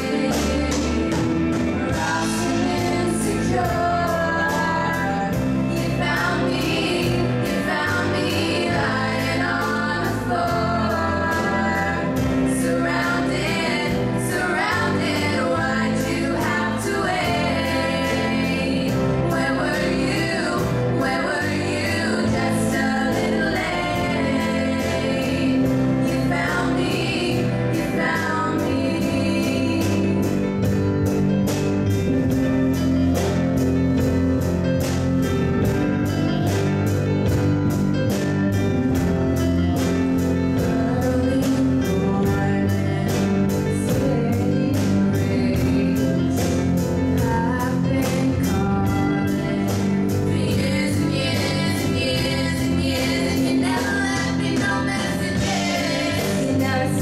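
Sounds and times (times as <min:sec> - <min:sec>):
women singing in harmony: 0:00.0 - 0:30.7, 0:40.6 - 0:57.0
electronic keyboard: 0:00.0 - 0:57.0.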